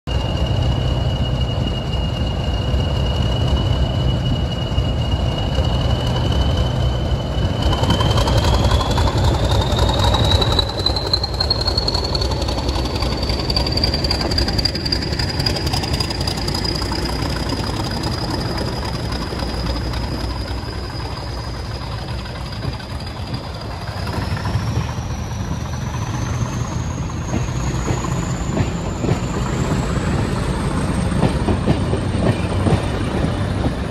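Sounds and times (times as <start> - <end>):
diesel locomotive engine: 0.0 - 33.9
turbocharger whistle: 0.1 - 30.0.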